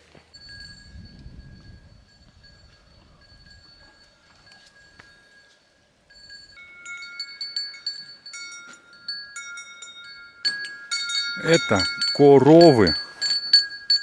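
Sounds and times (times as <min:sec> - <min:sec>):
cowbells clanking: 0:02.1 - 0:14.0.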